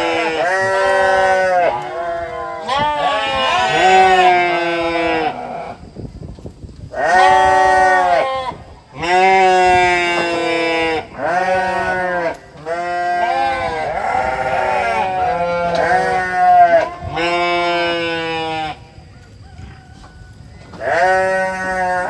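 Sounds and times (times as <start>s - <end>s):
goats bleating: 0.0s - 5.8s, 7.0s - 18.9s, 20.8s - 22.0s.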